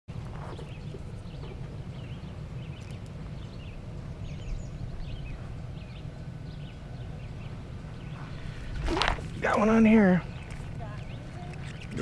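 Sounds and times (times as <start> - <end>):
songbirds chirping: 0.1 - 12.0
steady low rumble: 0.1 - 12.0.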